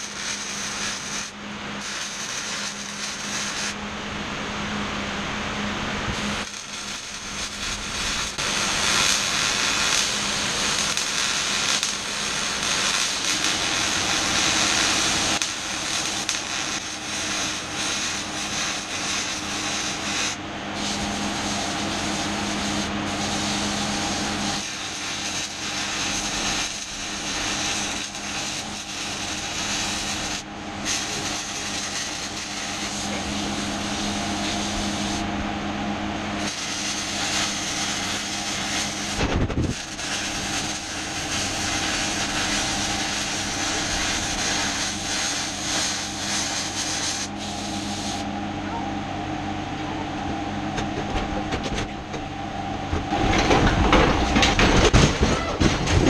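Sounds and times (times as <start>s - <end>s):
arc welding crackling hiss: 0.0s - 4.8s, 5.4s - 35.5s, 36.2s - 48.3s
steady low hum: 0.0s - 56.0s.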